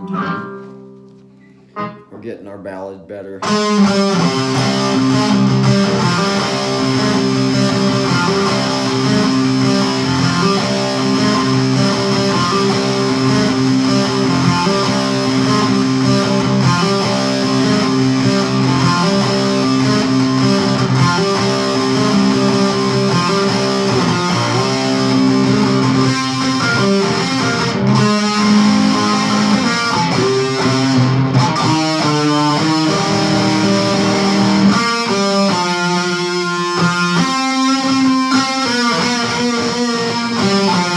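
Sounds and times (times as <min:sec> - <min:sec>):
electric guitar ballad: 0:00.0 - 0:02.2, 0:03.4 - 0:40.9.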